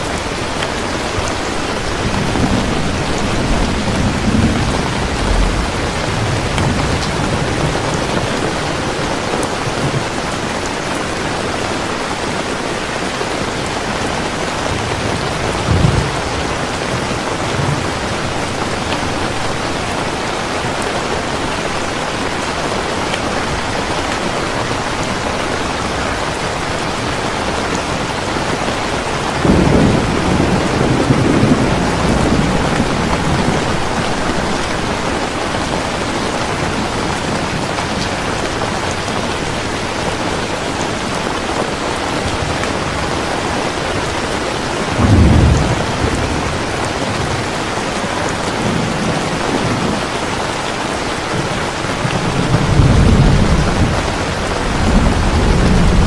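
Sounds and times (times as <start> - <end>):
heavy rain falling: 0.0 - 56.0
thunder rumbling: 0.1 - 50.7, 51.3 - 56.0.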